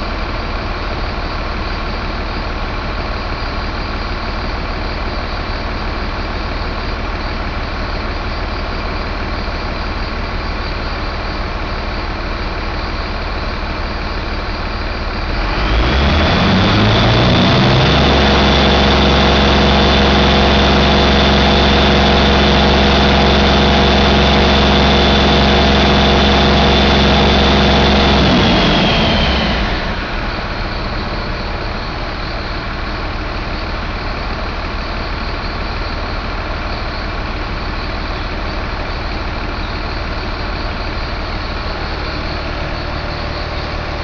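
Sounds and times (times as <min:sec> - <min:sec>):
diesel engine running with whine: 0:00.0 - 0:44.0.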